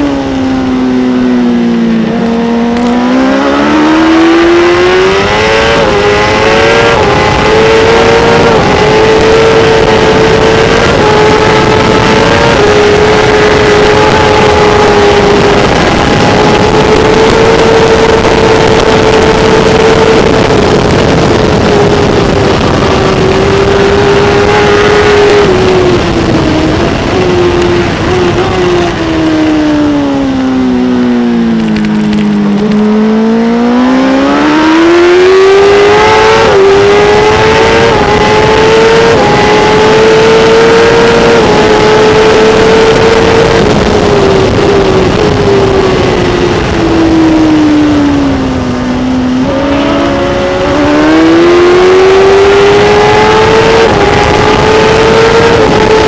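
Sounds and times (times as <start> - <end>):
motorcycle engine at racing revs: 0.0 - 56.0
wind noise: 0.0 - 56.0.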